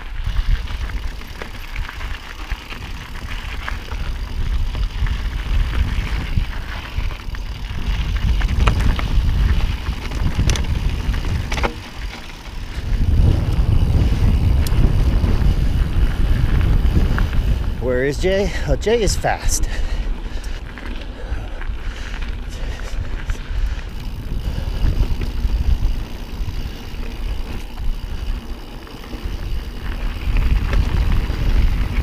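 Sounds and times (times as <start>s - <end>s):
bike clicks and rattles: 0.0s - 32.0s
tyre rumble on dirt trail: 0.0s - 32.0s
wind buffeting microphone: 0.0s - 32.0s.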